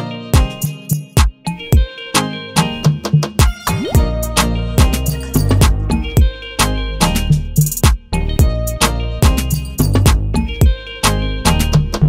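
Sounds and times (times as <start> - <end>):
guitar music with steady beat: 0.0 - 12.0.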